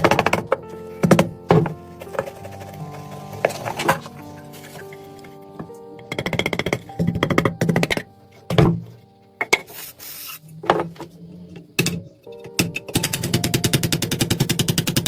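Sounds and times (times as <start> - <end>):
background music with held tones: 0.0 - 15.0.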